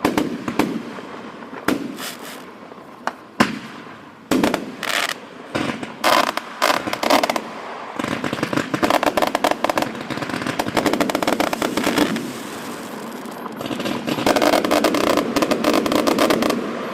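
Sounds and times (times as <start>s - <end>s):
fireworks popping and crackling: 0.0s - 16.9s.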